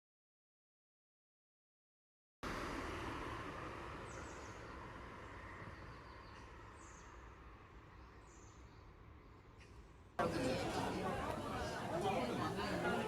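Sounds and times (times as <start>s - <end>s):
outdoor background noise: 2.4s - 13.0s.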